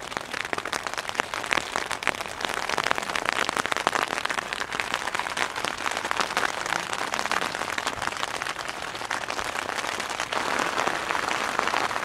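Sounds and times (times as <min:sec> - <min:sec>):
rain pattering on tent: 0:00.0 - 0:12.0.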